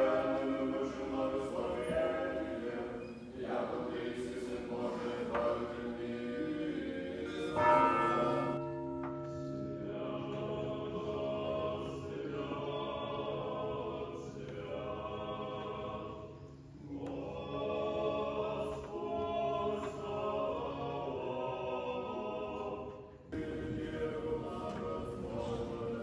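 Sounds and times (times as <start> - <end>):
male choir chanting: 0.0 - 26.0.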